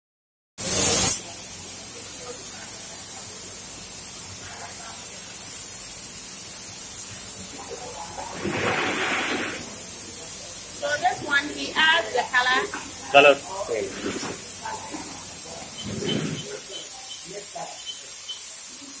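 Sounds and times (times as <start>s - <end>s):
spray gun hissing: 0.6s - 19.0s.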